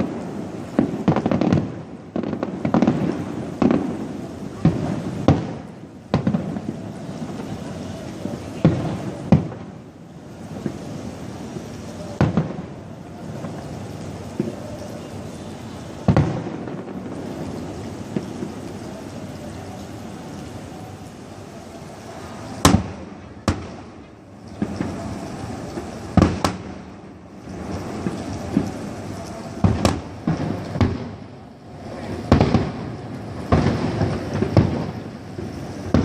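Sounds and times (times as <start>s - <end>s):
fireworks bangs with echo: 0.0s - 21.0s, 22.0s - 36.0s
background hiss: 0.0s - 36.0s.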